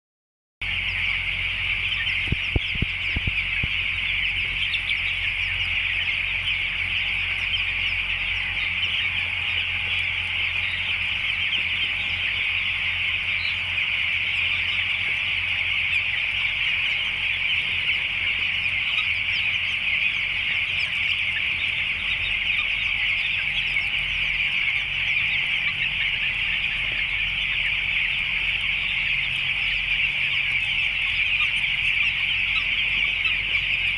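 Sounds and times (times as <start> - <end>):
chicks peeping: 0.6 - 33.9.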